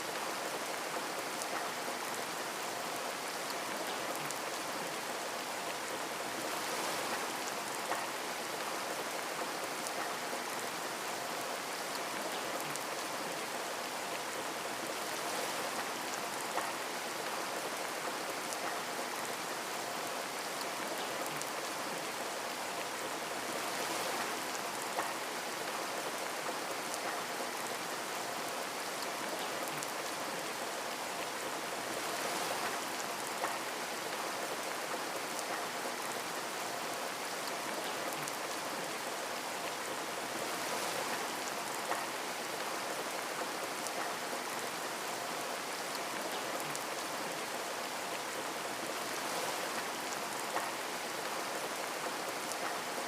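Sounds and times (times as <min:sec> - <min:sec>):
rain falling on a window: 0:00.0 - 0:53.0.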